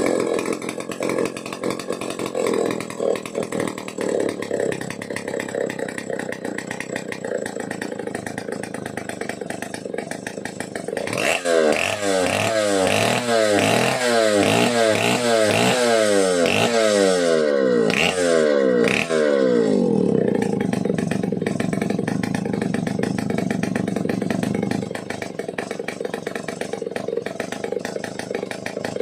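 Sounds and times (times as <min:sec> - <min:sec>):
chainsaw engine revving: 0:00.0 - 0:29.0.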